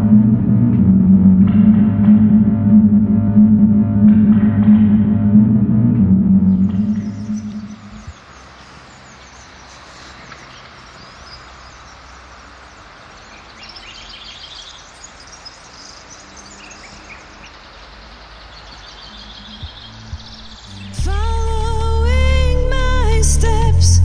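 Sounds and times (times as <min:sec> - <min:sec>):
birds chirping: 0:00.0 - 0:22.3
outdoor background noise: 0:00.0 - 0:24.0.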